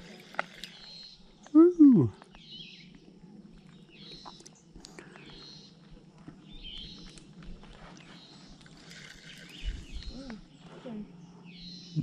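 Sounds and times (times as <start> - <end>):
bird chirping: 0.5 - 12.0.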